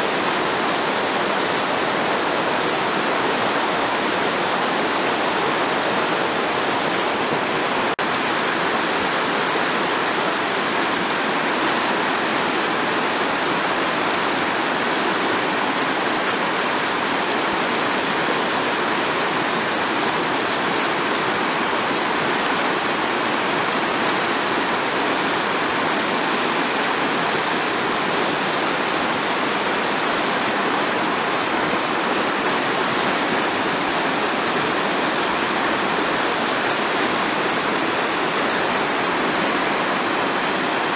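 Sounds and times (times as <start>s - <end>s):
river rushing over stones: 0.0s - 40.9s.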